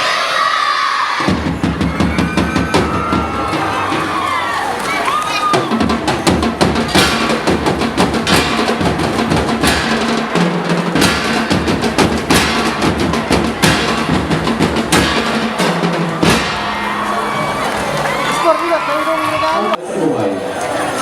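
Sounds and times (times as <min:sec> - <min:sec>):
percussion dance music: 0:01.2 - 0:19.8.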